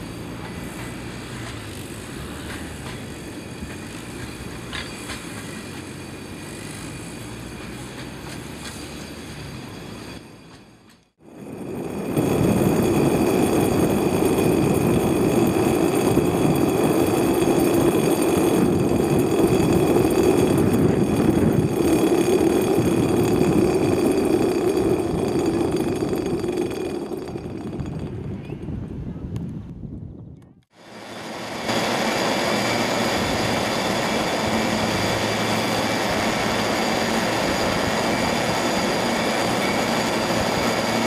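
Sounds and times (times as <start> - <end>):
steel cable rumbling over pulleys: 0.0 - 28.6, 30.9 - 41.0.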